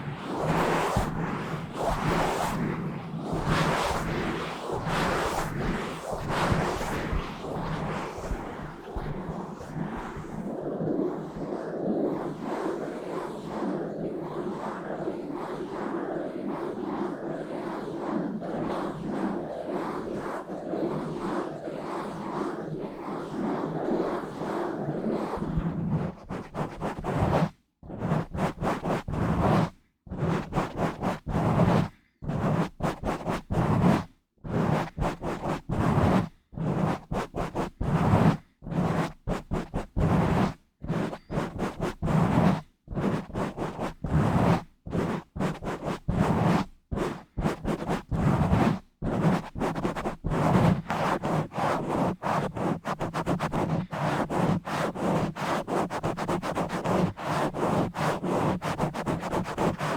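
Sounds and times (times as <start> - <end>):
fingers rubbing on microphone: 0.0 - 11.5, 16.9 - 59.9.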